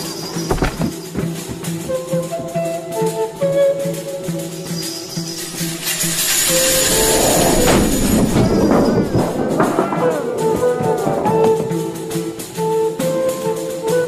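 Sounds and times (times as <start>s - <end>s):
film music with plucked notes: 0.0s - 14.0s.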